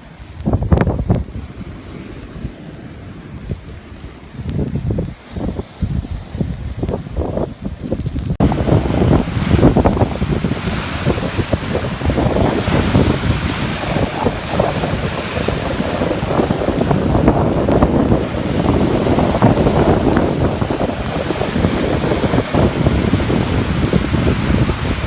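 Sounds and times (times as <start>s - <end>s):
sea waves surging and washing: 0.0s - 25.0s
wind buffeting microphone: 0.0s - 25.0s.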